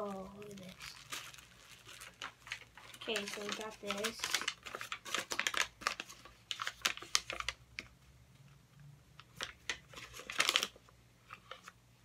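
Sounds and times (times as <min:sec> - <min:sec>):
paper crinkling: 0:00.0 - 0:07.6, 0:09.3 - 0:11.8.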